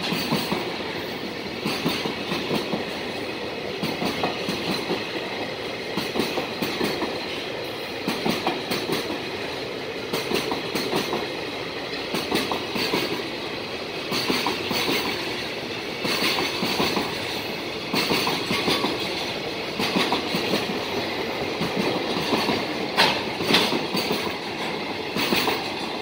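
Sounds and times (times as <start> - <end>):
train wheels clacking over joints: 0.0 - 3.0, 3.8 - 9.3, 10.0 - 26.0
freight train rolling rumble: 0.0 - 26.0.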